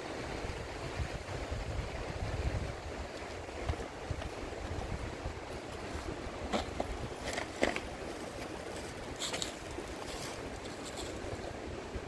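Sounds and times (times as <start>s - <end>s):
flowing water: 0.0s - 12.0s.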